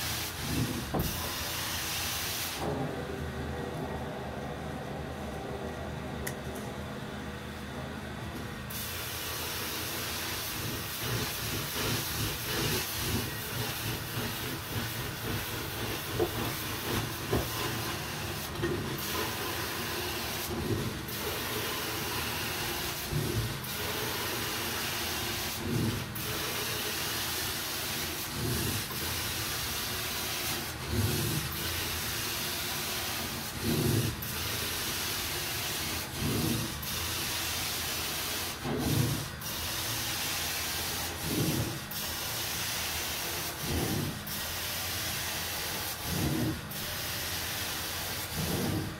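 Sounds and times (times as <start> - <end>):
carpet extraction wand hissing: 8.7 - 48.9.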